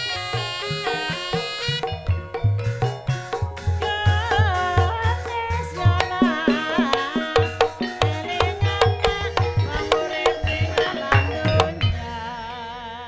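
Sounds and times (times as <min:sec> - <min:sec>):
hand drum strokes: 0:00.0 - 0:12.5
gamelan music: 0:00.0 - 0:13.0.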